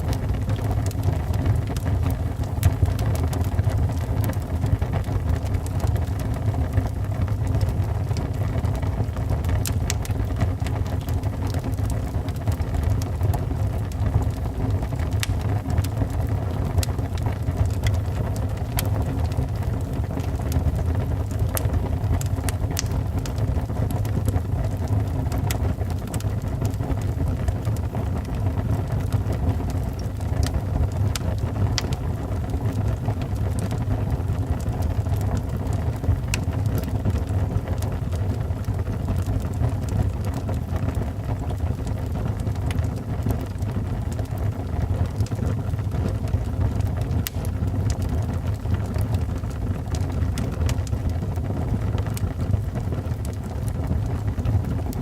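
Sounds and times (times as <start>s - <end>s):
fire flames rumbling: 0.0s - 55.0s
wood fire crackling and popping: 0.0s - 55.0s.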